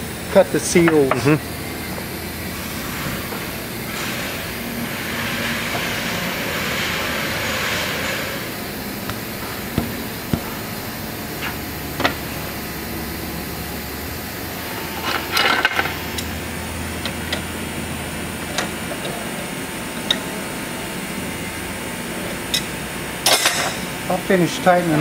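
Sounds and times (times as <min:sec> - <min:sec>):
steady shop hum: 0:00.0 - 0:25.0.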